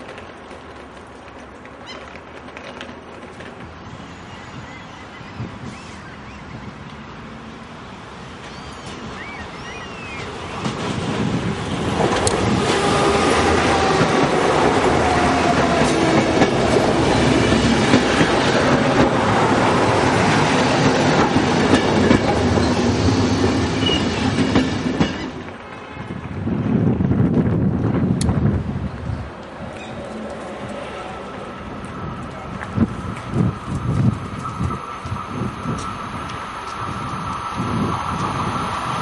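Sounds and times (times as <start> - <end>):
train wheels on rails rushing: 0.0 - 39.0.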